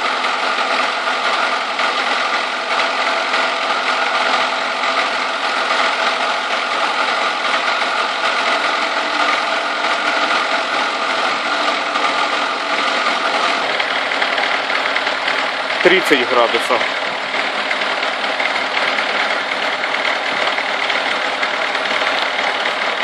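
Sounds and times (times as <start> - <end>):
car engine idling with knocking: 0.0 - 23.0.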